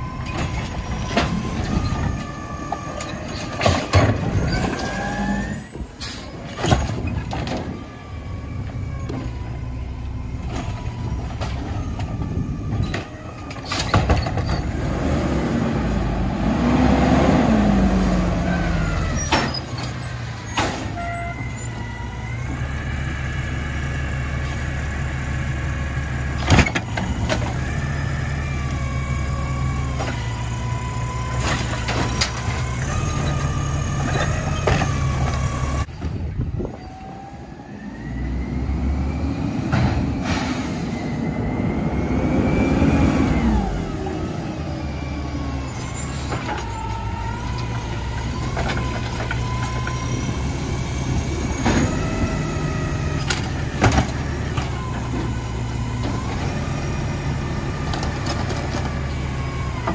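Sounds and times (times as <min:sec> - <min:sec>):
garbage truck running: 0:00.0 - 0:59.9.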